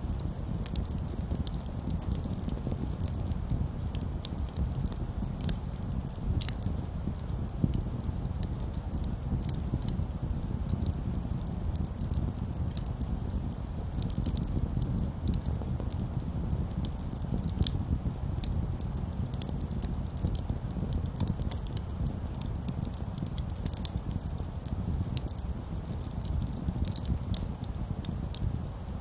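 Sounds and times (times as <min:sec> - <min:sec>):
campfire crackling and popping: 0:00.0 - 0:29.0
low fire rumble: 0:00.0 - 0:29.0.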